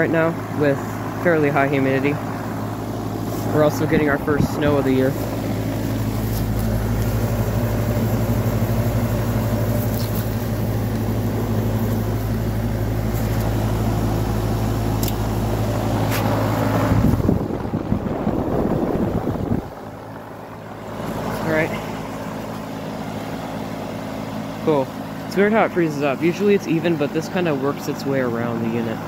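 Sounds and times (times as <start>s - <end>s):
compressor humming: 0.0s - 29.0s
fan whooshing: 0.0s - 29.0s
uneven mechanical noise: 0.0s - 29.0s.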